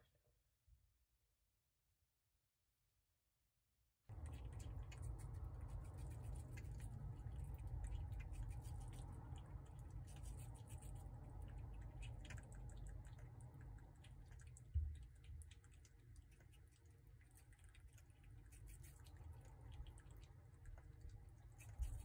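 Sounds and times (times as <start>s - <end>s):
animal chewing wetly: 4.1s - 22.0s
low steady rumble: 4.1s - 22.0s.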